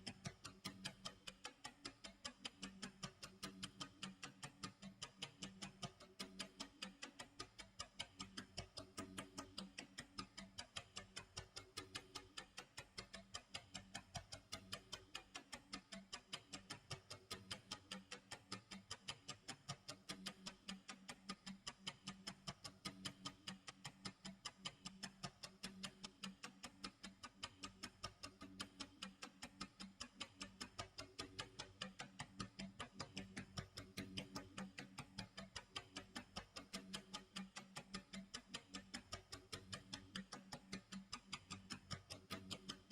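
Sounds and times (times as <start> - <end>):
clock ticking: 0.0 - 42.9.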